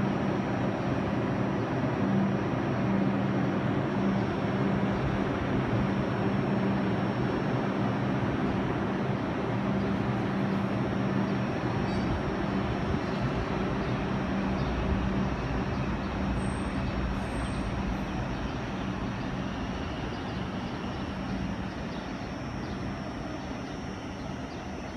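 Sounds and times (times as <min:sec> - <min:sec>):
subway train rumble: 0:00.0 - 0:24.9.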